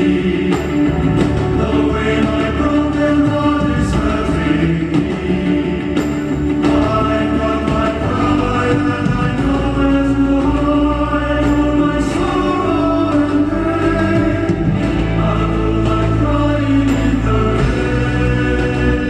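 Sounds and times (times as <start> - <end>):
band accompaniment: 0.0 - 19.0
male choir singing chant: 0.0 - 19.0.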